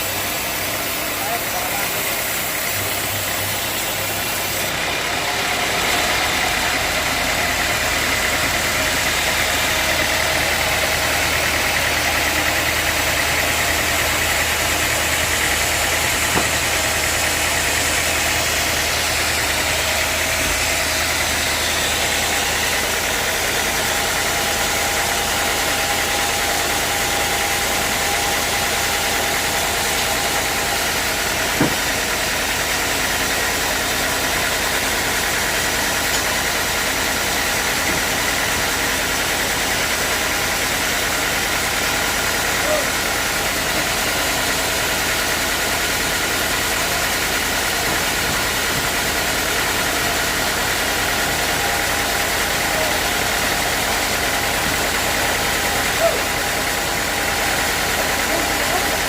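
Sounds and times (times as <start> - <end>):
sawmill machinery humming and whining: 0.0 - 59.0.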